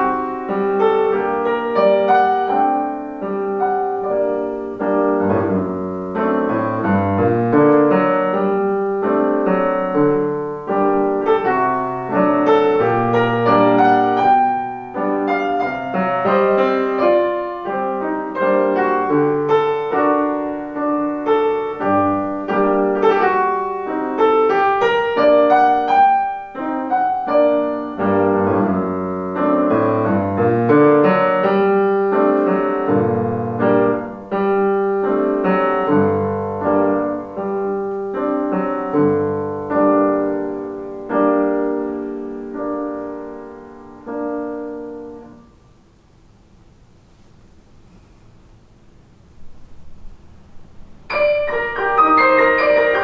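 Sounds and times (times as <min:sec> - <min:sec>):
solo classical piano piece: 0:00.0 - 0:53.0.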